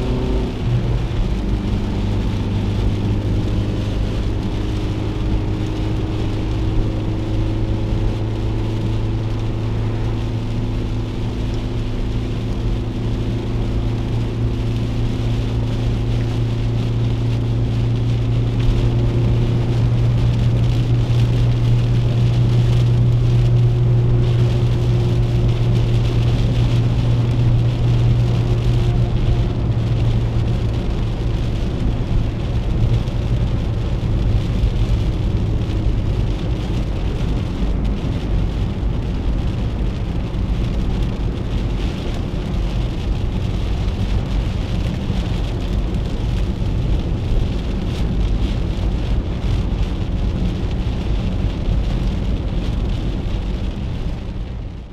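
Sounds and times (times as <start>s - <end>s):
car engine drone: 0.0s - 54.9s
heavy rain hissing on car roof: 0.0s - 54.9s
wet-road tyre noise: 0.0s - 54.9s.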